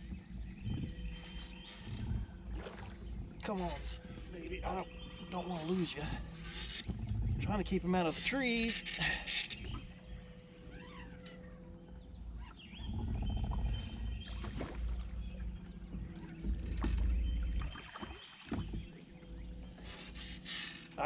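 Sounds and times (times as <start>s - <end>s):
rumble of water and wind: 0.0s - 21.0s.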